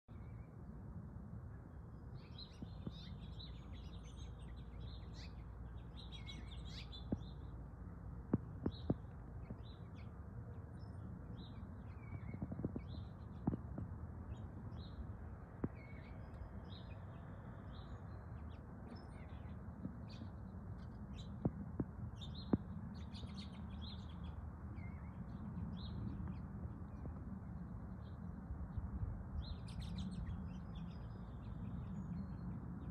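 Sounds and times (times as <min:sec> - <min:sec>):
small birds chirping: 0:02.0 - 0:32.9.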